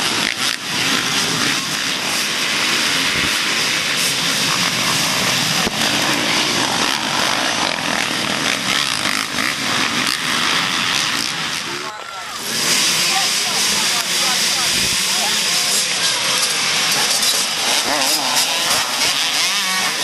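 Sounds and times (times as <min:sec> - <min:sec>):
dirt bike engines running: 0:00.0 - 0:20.0.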